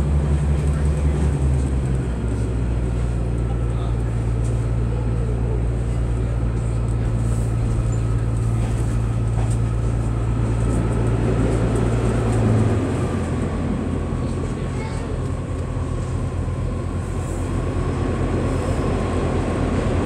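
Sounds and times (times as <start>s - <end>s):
diesel railbus engine drone: 0.0s - 20.0s.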